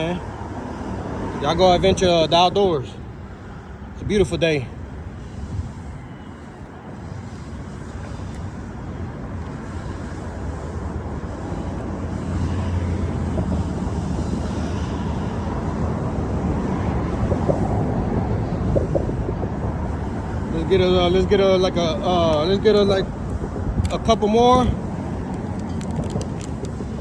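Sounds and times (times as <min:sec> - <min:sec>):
low engine rumble: 0:00.0 - 0:27.0
wind on microphone: 0:03.8 - 0:27.0.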